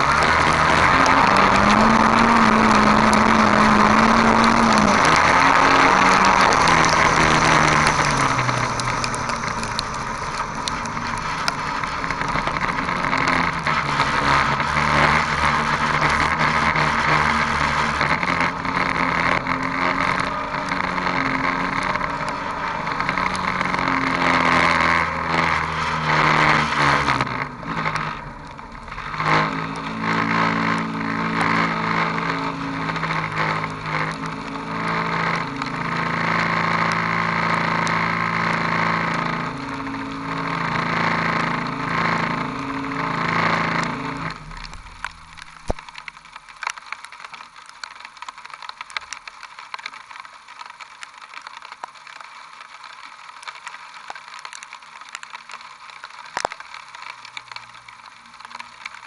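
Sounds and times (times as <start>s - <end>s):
race car engine revving: 0.0s - 49.4s.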